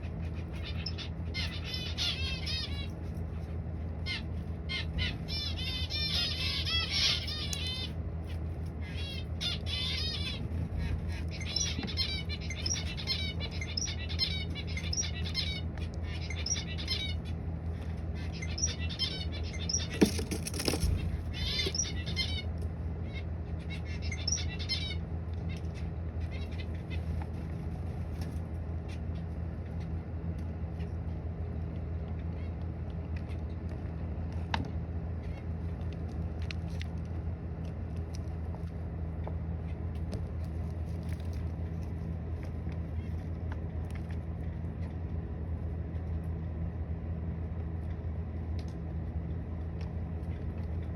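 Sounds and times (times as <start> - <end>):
small birds chirping: 0.0 - 46.8
steady low hum: 0.0 - 50.9.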